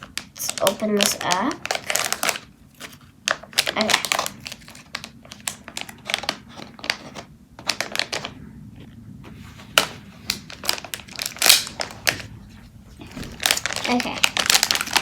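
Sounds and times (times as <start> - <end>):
plastic packaging clicks and crinkles: 0.0 - 8.4, 9.7 - 12.4, 13.0 - 15.0.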